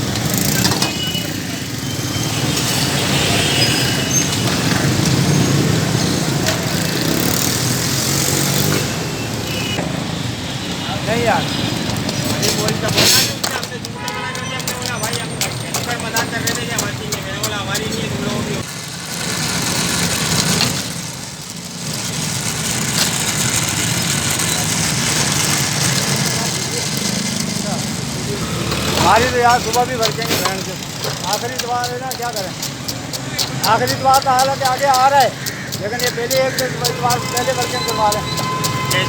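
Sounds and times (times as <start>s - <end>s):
busy street noise: 0.0s - 39.0s.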